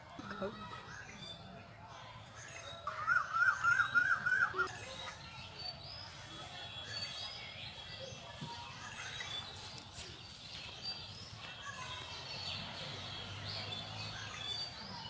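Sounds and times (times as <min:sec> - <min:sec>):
faint high bird chirps: 0:00.2 - 0:15.0.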